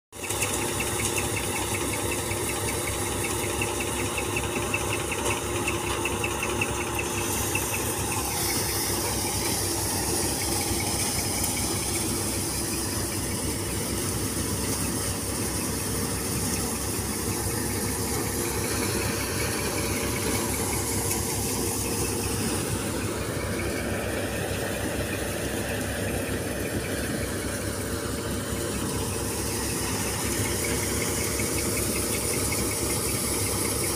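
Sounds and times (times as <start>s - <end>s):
thresher mechanical drone: 0.2s - 33.9s.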